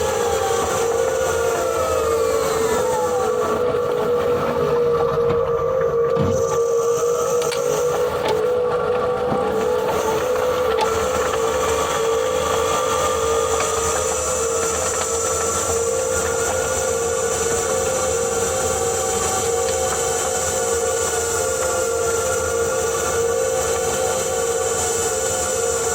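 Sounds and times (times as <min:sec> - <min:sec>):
transmission whine: 0:00.0 - 0:25.9.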